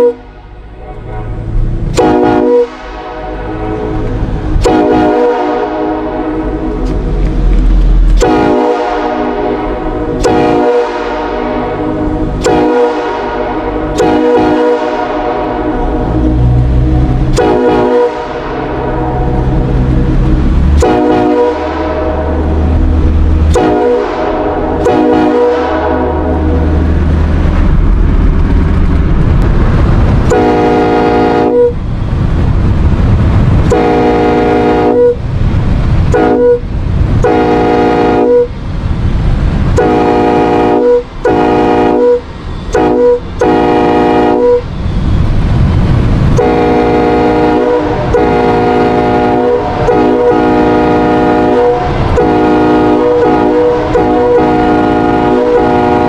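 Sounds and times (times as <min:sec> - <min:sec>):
train horn blasts: 0:00.0 - 0:07.0, 0:08.1 - 0:27.0, 0:30.3 - 0:31.8, 0:33.6 - 0:35.2, 0:36.1 - 0:38.5, 0:39.8 - 0:44.7, 0:46.3 - 0:56.0
low rumble: 0:00.0 - 0:41.3, 0:42.2 - 0:56.0.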